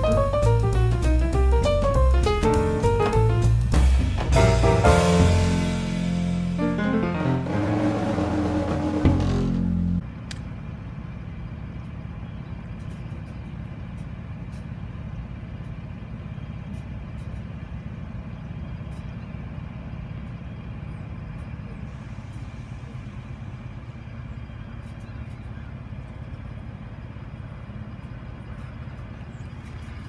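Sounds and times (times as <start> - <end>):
locomotive engine rumble: 0.0 - 30.0.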